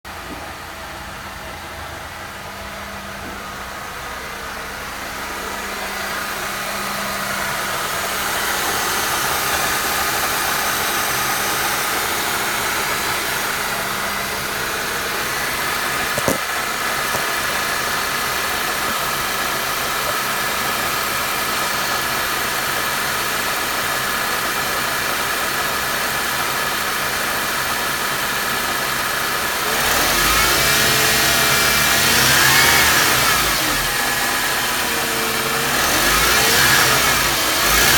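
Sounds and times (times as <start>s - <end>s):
car engine running: 0.1s - 37.9s.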